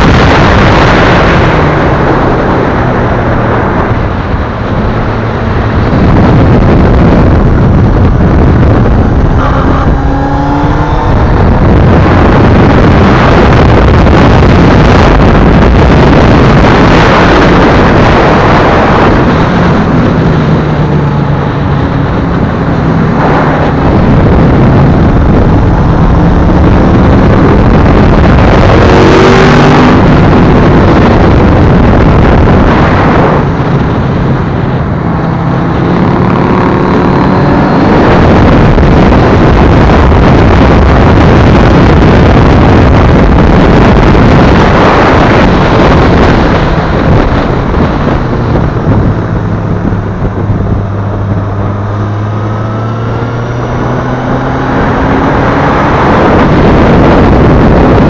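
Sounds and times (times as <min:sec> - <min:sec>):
distorted wind rush: 0:00.0 - 0:58.0
motorcycle engine accelerating: 0:00.0 - 0:58.0.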